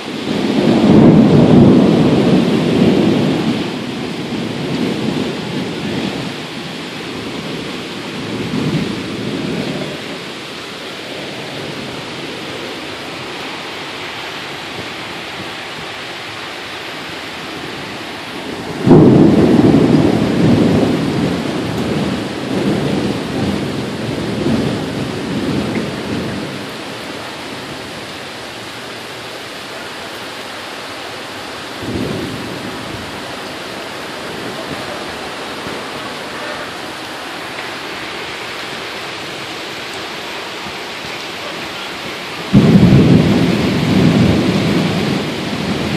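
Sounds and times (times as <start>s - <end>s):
rain and wind: 0.0s - 45.9s
thunder rumble: 0.0s - 45.9s.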